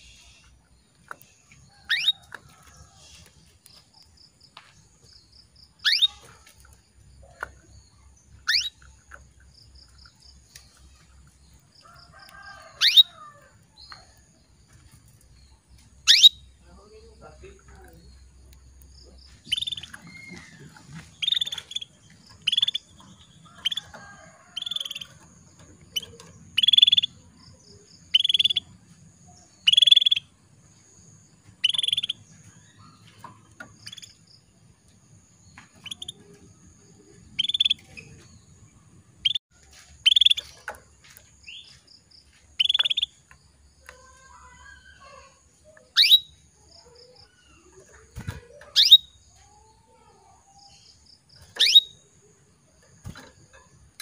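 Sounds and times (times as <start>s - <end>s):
canary chirping: 0.0s - 4.2s, 4.8s - 28.8s, 29.4s - 30.3s, 31.5s - 34.7s, 35.7s - 38.6s, 39.2s - 39.4s, 40.0s - 40.7s, 42.5s - 43.3s, 43.9s - 50.0s, 50.6s - 54.0s.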